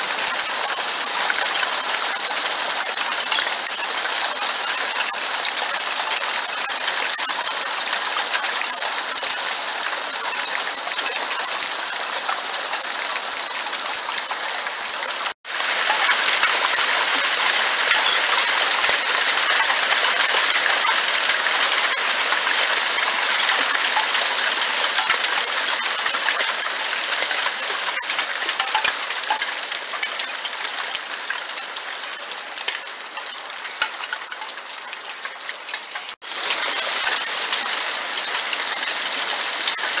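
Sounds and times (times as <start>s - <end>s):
hailstones pattering: 0.0s - 40.0s.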